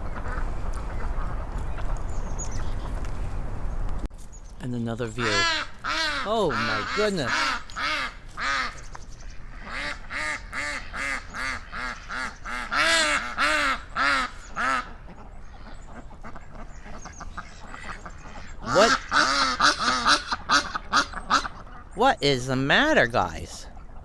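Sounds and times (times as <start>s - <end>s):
ducks quacking: 0.0s - 2.0s, 5.1s - 24.0s.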